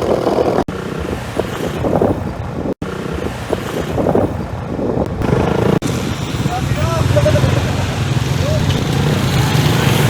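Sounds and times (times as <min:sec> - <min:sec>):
motorcycle engine running: 0:00.0 - 0:10.0
wind buffeting microphone: 0:00.0 - 0:10.0.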